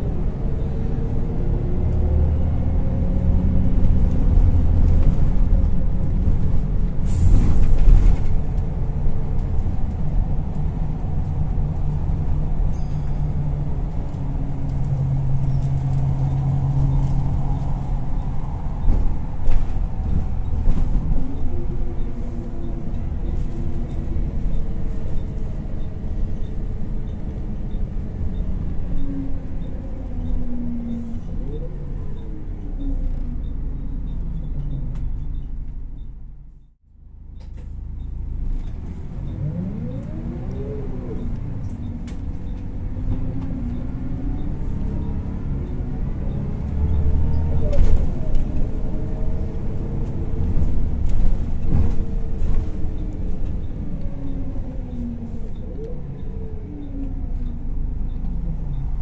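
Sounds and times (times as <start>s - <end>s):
bus diesel engine from inside: 0.0s - 59.0s.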